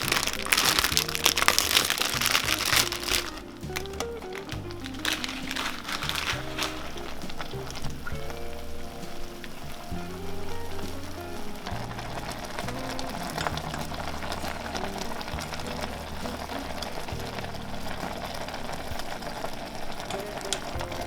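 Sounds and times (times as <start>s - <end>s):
background music low notes: 0.0s - 21.0s
water boiling in a pot: 0.0s - 21.0s.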